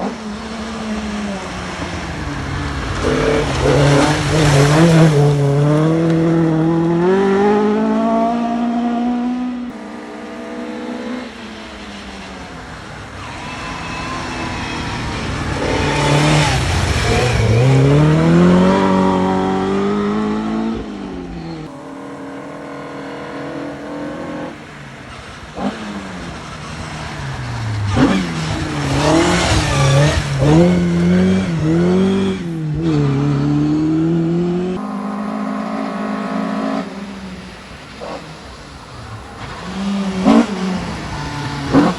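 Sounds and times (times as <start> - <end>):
rally cars revving past: 0.0 - 41.9.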